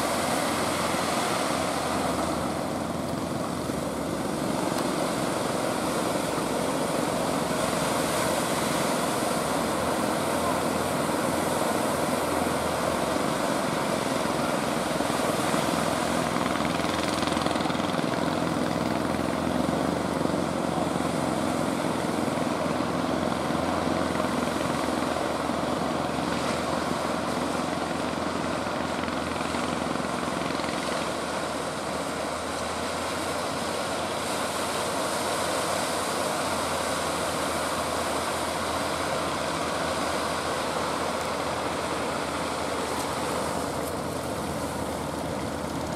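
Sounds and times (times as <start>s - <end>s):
faint boat engine drone: 0.0s - 45.9s
surf: 0.0s - 45.9s
wind: 0.0s - 45.9s.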